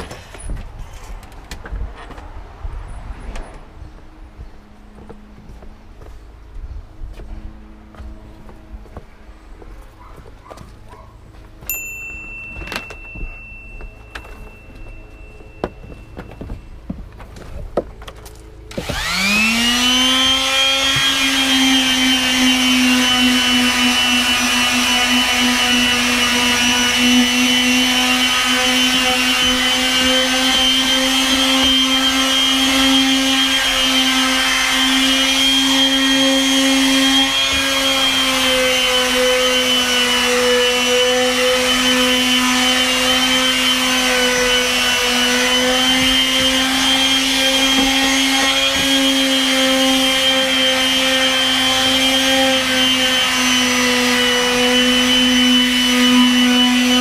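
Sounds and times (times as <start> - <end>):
palm sander whining: 3.6 - 57.0.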